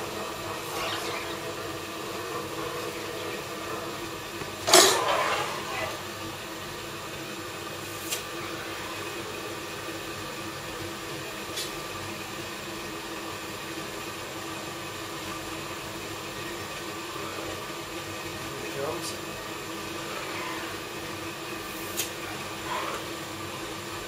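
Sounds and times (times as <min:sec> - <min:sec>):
furnace blowers rushing: 0:00.0 - 0:24.0.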